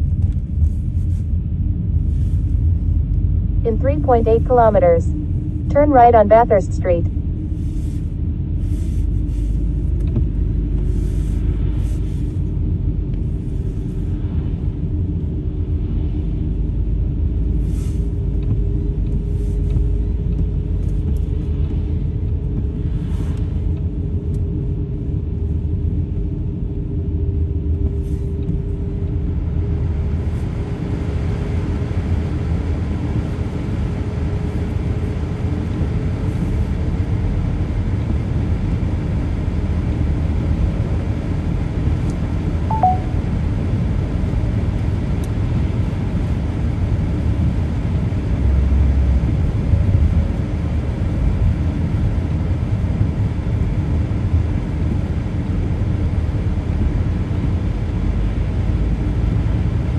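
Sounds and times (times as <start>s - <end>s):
car engine and tyres rumbling: 0.0s - 6.3s, 7.0s - 59.9s.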